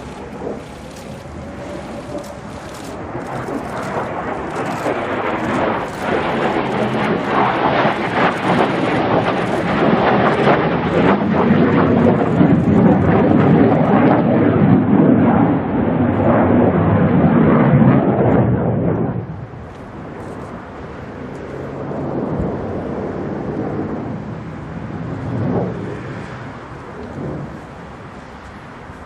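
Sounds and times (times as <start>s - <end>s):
fighter jet engine roar: 0.0s - 29.0s.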